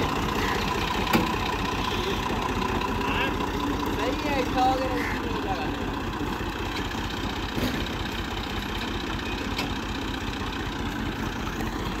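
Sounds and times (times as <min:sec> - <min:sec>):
tractor diesel engine chugging: 0:00.0 - 0:12.0.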